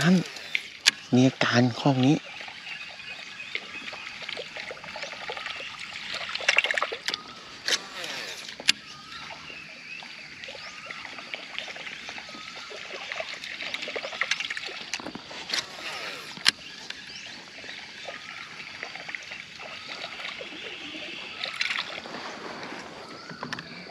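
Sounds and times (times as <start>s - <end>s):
water trickling and splashing: 0.0s - 23.9s.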